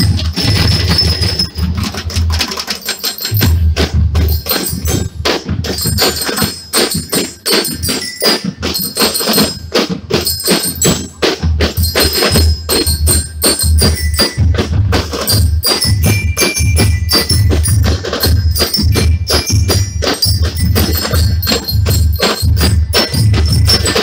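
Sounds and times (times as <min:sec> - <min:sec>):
bell lyres ringing: 0:00.0 - 0:24.0
heavy bass drum: 0:00.0 - 0:24.0.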